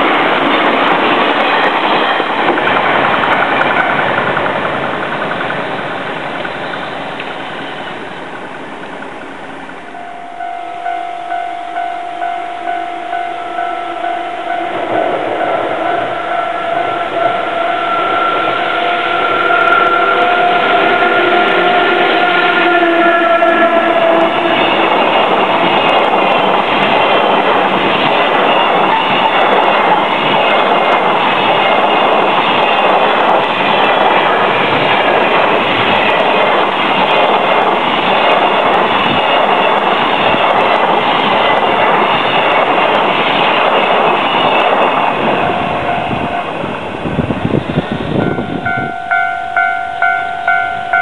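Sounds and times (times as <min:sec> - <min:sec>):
freight train wheels on rail: 0:00.0 - 0:51.0.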